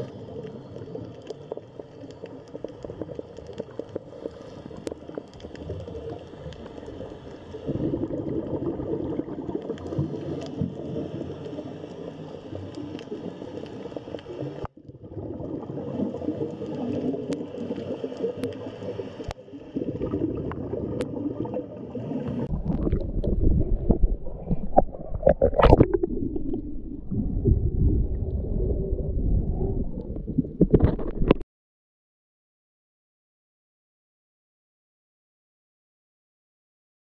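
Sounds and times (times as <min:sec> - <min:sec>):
low rumble of moving water: 0:00.0 - 0:31.4
underwater gurgling and bubbling: 0:00.0 - 0:31.4.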